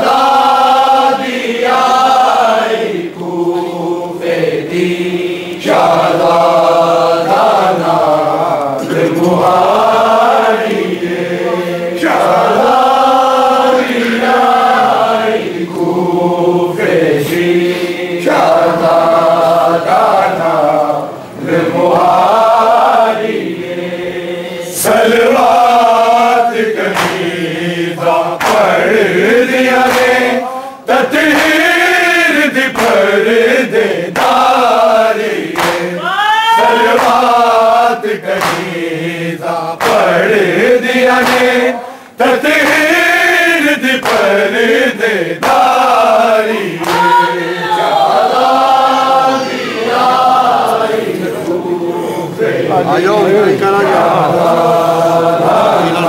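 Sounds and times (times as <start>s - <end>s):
men chanting a lament: 0.0s - 56.0s.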